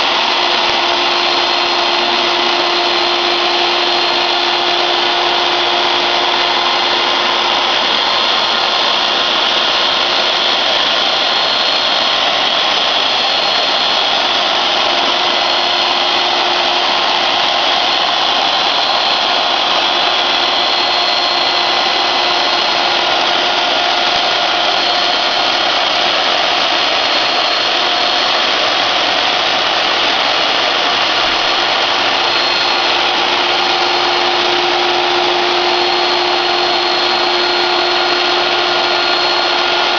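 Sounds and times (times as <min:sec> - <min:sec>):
cnc router cutting: 0:00.0 - 0:39.9.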